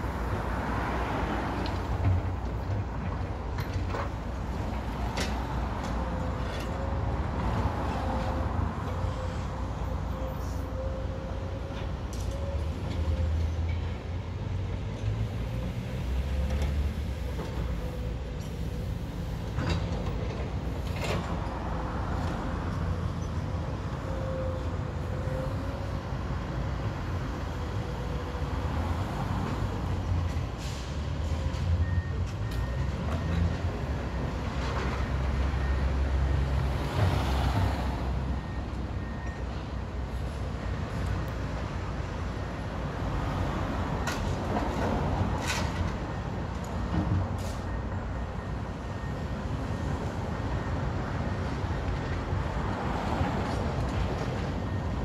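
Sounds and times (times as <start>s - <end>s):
excavator diesel engines: 0.0s - 55.0s.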